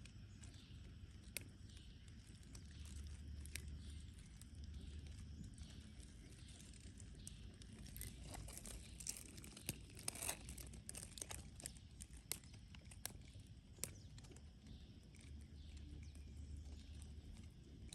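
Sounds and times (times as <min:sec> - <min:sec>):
small sharp clicks and crinkles: 0:00.0 - 0:17.9
faint rustling: 0:01.7 - 0:17.9.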